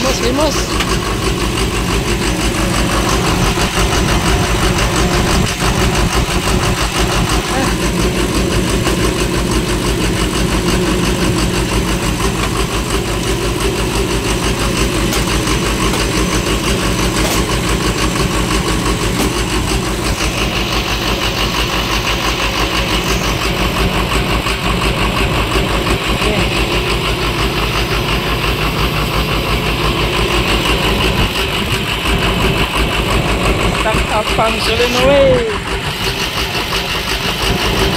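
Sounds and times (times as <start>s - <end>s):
vehicle engine idling: 0.0s - 37.9s.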